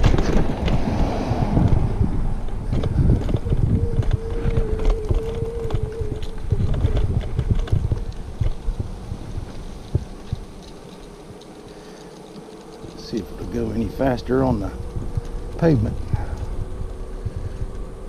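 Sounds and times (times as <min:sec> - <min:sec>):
scooter wheels rumbling on concrete: 0:00.0 - 0:18.0.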